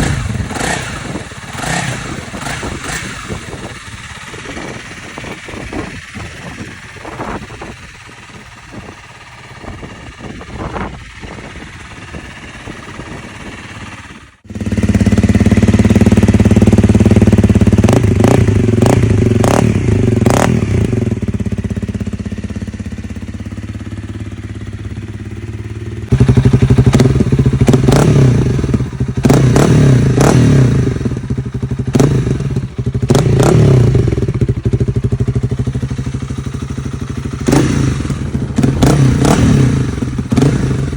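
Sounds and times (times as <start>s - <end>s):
motorcycle engine throttle blips: 0.0s - 40.9s.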